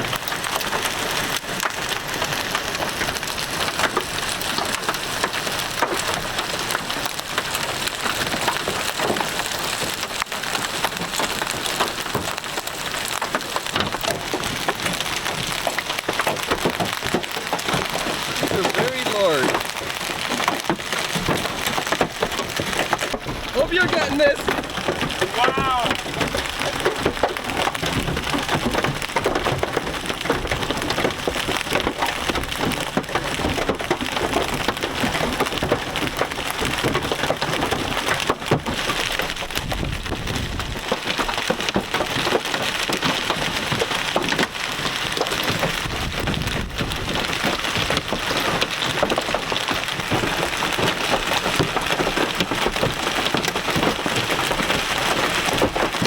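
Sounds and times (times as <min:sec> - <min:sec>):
hail pounding on a vehicle: 0:00.0 - 0:56.0.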